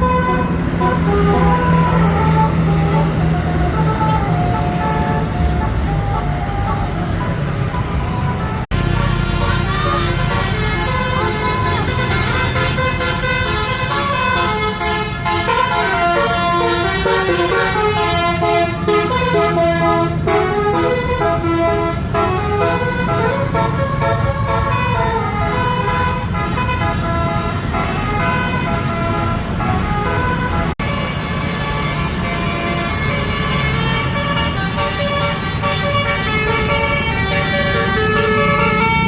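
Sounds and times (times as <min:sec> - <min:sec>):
bus engine rumble: 0:00.0 - 0:39.0
musical bus horn playing a tune: 0:00.0 - 0:39.0.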